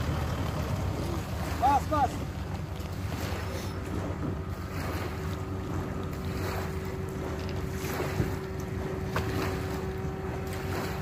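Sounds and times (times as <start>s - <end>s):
vehicle engine idling: 0.0s - 10.7s
wind buffeting microphone: 0.0s - 11.0s.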